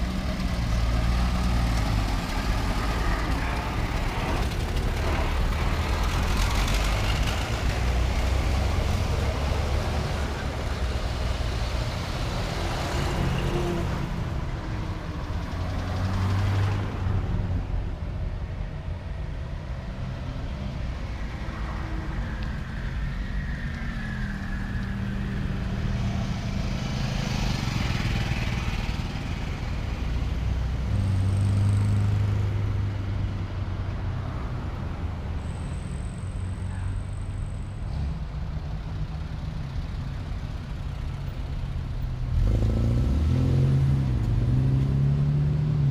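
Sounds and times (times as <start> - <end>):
car engines driving by: 0.0 - 45.9.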